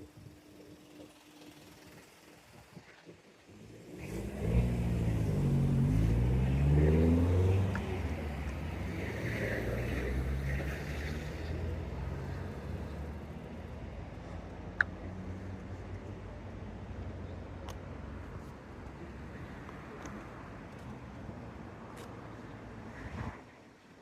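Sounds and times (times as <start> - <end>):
vehicle engine slowing and accelerating: 0.0 - 23.4.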